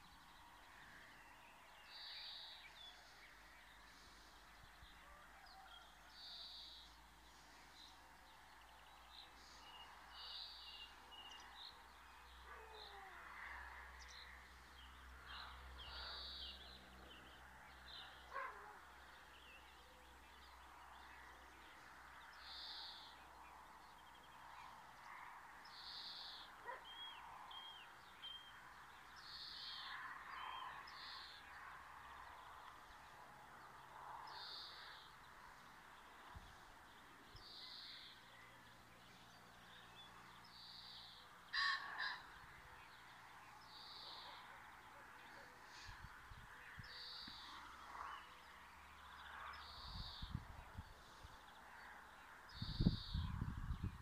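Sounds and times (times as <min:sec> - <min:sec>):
soft outdoor background: 0:00.0 - 0:54.0.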